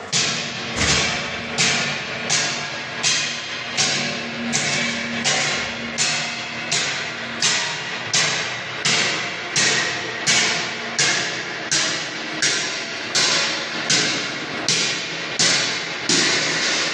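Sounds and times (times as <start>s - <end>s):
machinery knocking: 0.1s - 16.9s.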